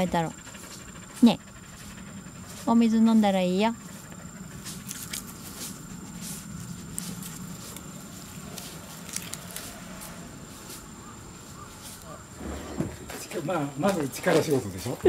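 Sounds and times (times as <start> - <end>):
dog rustling on grass: 0.0 - 12.4.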